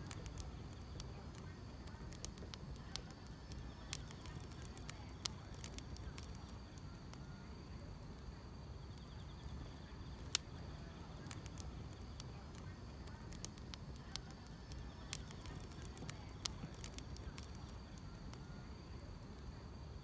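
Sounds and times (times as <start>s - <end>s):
firewood crackling and popping: 0.0s - 20.0s
insects chirping: 0.0s - 20.0s.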